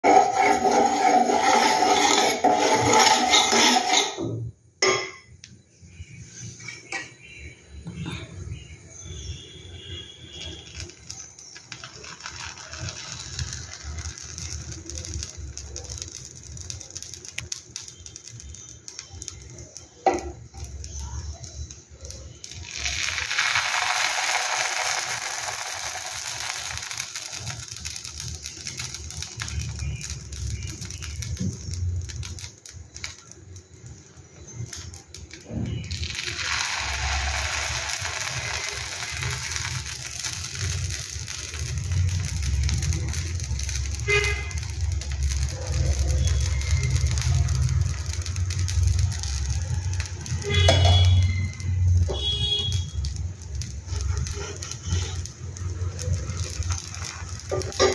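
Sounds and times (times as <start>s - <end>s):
batter sizzling on hot pan: 0.0s - 4.4s, 5.5s - 57.9s.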